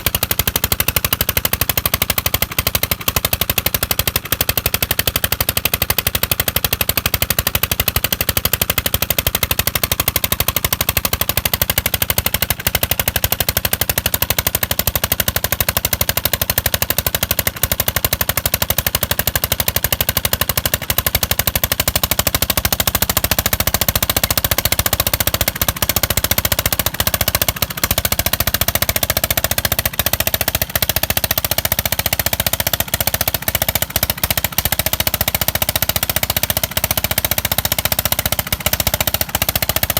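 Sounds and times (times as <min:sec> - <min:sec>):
diesel engine exhaust beats: 0:00.0 - 0:39.9.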